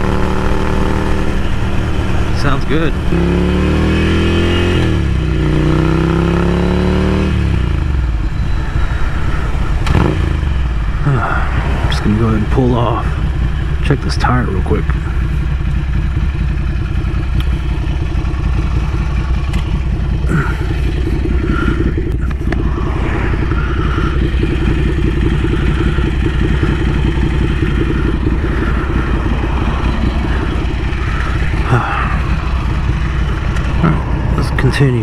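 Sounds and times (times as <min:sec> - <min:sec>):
motorcycle engine pulsing: 0:00.0 - 0:35.0.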